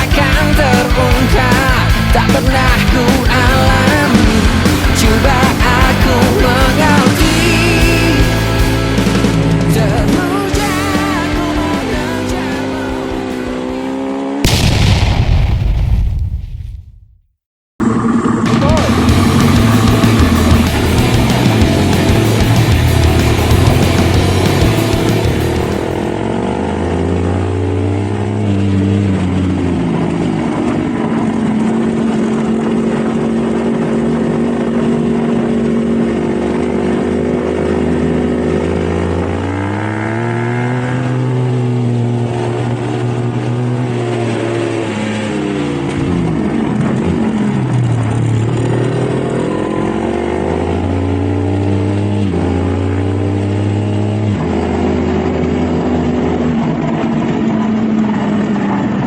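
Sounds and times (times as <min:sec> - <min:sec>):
dirt bike engine revving: 0:00.0 - 0:14.7, 0:17.8 - 0:59.0.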